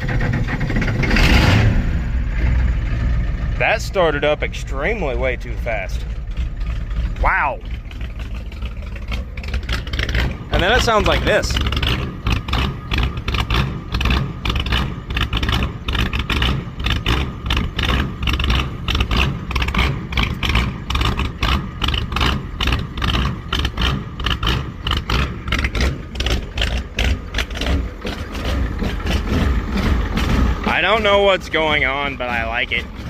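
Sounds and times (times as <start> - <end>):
diesel engine knocking: 0.0 - 33.0.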